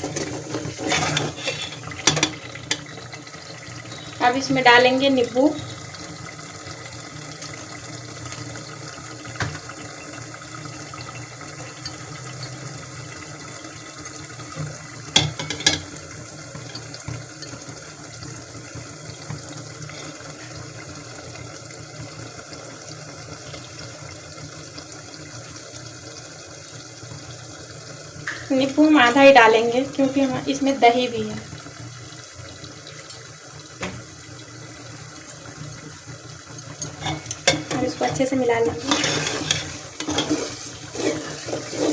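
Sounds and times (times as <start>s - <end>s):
pan cooking on stove hissing: 0.0s - 41.9s.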